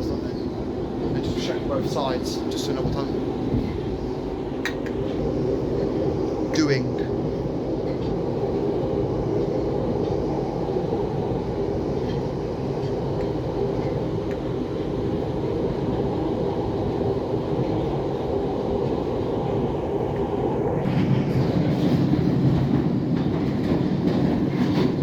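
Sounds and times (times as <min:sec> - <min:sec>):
train running rumble: 0:00.0 - 0:25.0.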